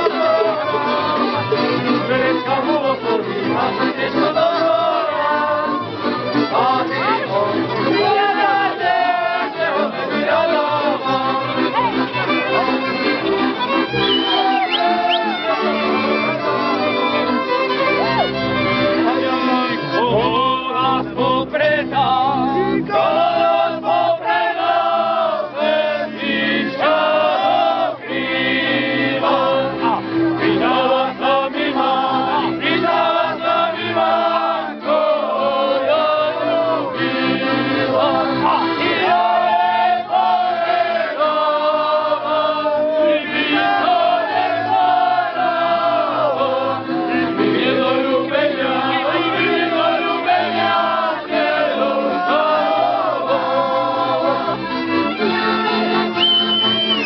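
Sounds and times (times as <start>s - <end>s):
men singing together: 0.0s - 11.7s, 19.1s - 54.8s
double bass: 0.0s - 42.6s, 44.4s - 57.0s
accordion: 0.0s - 57.0s
fiddles: 0.0s - 57.0s.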